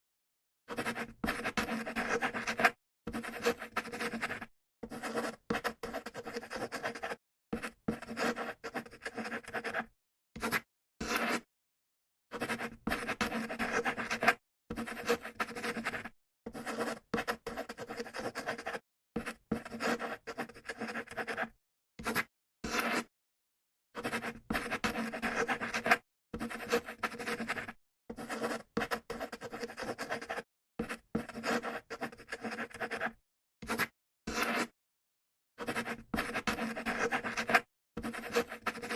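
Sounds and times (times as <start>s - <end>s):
pencil scratching on paper: 0.7s - 11.5s, 12.3s - 23.1s, 24.0s - 34.8s, 35.6s - 38.9s.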